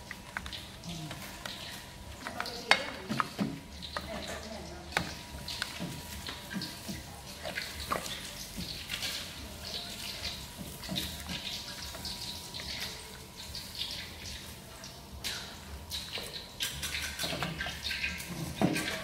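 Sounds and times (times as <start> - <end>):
liquid splashing and pouring: 0.0 - 19.0.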